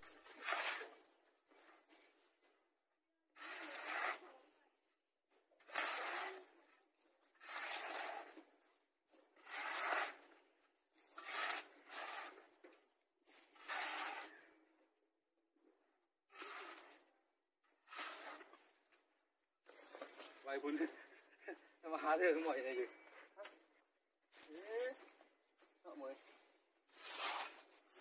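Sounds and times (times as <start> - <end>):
shovel scraping dry soil: 0.0 - 1.6, 3.4 - 4.6, 5.5 - 12.6, 13.2 - 14.7, 16.3 - 23.6, 24.3 - 28.0.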